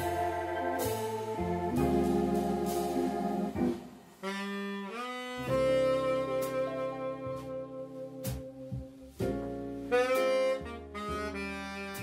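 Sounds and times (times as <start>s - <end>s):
keyboard: 0.0s - 12.0s
saxophone: 0.0s - 12.0s.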